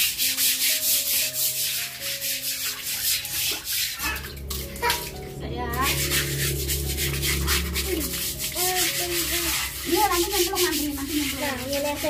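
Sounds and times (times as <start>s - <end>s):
brush scrubbing concrete: 0.0s - 12.0s.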